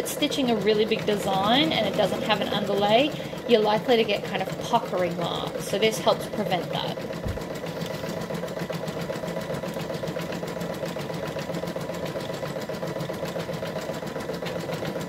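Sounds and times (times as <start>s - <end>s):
embroidery machine needle stitching: 0.0s - 15.0s
motor hum: 0.0s - 15.0s.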